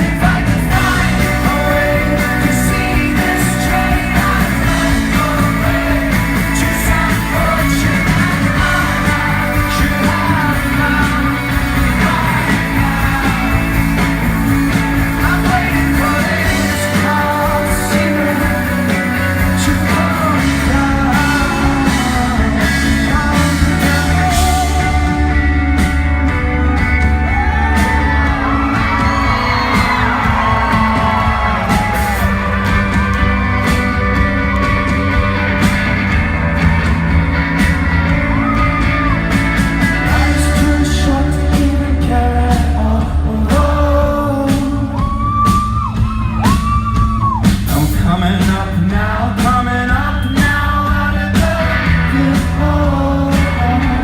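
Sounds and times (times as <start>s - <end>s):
crowd yelling: 0.0s - 41.3s, 43.5s - 48.9s
live rock music: 0.0s - 54.0s.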